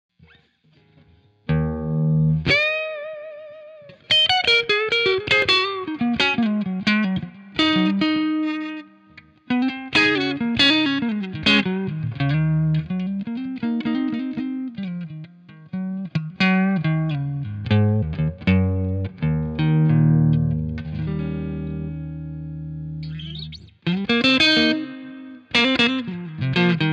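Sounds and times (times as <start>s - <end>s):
electric guitar music: 0.2s - 26.9s.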